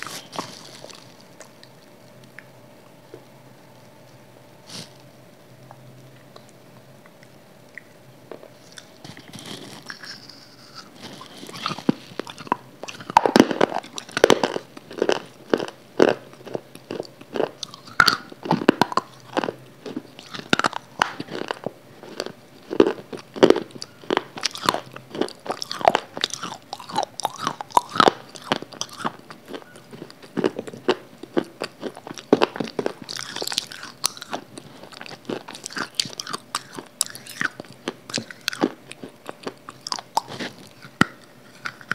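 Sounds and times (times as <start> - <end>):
crunching bites and chewing: 0.0 - 2.5, 7.8 - 41.9.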